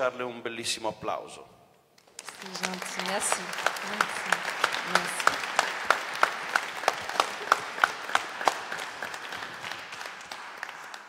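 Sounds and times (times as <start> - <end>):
audience applauding: 2.0 - 11.0
loud close claps: 2.0 - 11.0.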